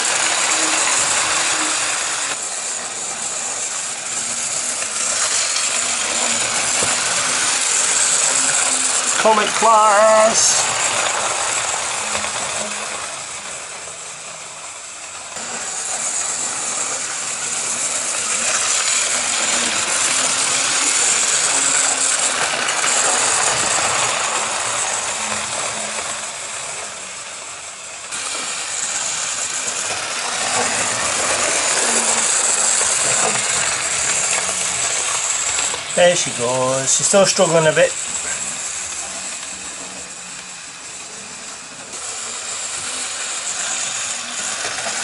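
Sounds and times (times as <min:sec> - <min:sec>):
small electric motor whirring: 0:00.0 - 0:45.0
wheels rattling on rails: 0:00.0 - 0:45.0.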